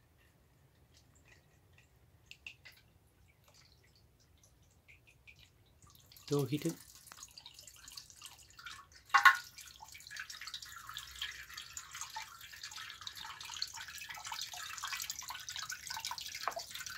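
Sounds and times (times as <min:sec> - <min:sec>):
water trickling through funnel: 0:00.1 - 0:16.9.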